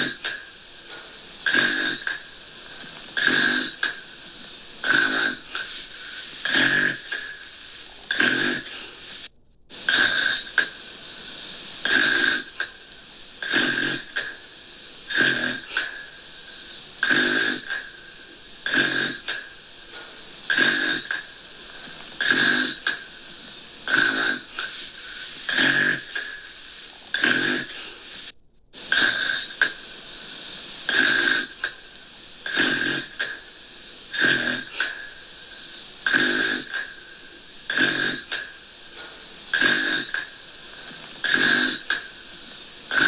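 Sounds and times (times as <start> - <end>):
gentle snoring: 0.0 - 43.0.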